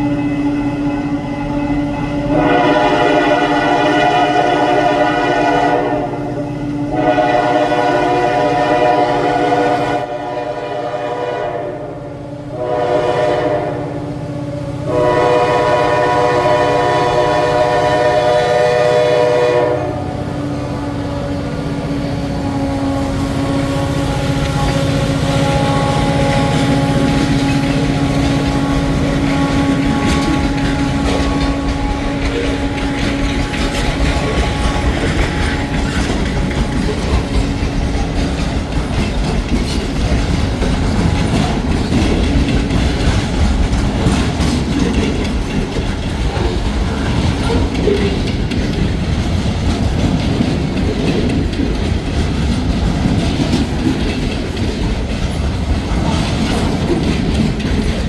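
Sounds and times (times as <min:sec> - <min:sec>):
train wheel clatter on rails: 0:00.0 - 0:11.8, 0:12.5 - 0:58.0
locomotive tone: 0:00.0 - 0:58.0.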